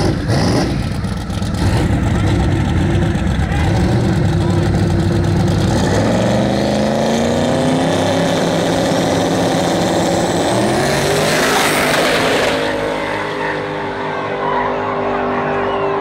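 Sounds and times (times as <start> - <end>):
cars passing close: 0.0 - 16.0
racing cars accelerating: 0.0 - 16.0.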